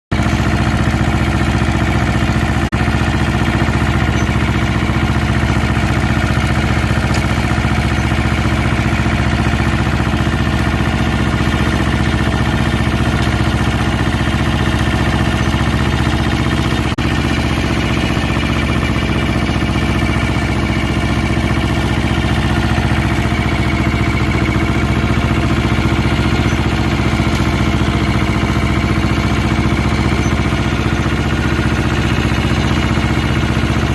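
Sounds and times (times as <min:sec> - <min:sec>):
tractor engine running steadily: 0:00.1 - 0:33.9.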